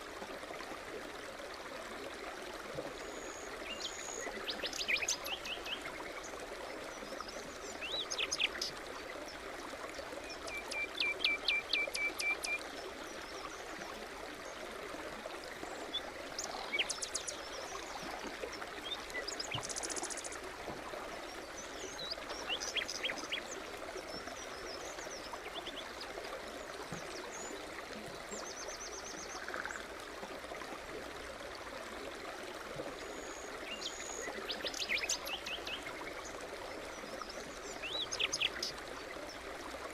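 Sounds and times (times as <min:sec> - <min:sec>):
forest stream babbling: 0:00.0 - 0:39.9.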